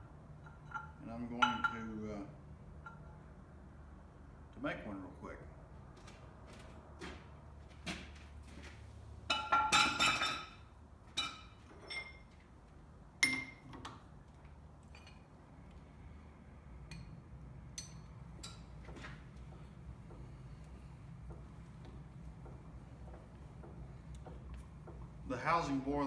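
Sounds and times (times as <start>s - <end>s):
steady low hum: 0.0s - 7.8s, 8.4s - 26.0s.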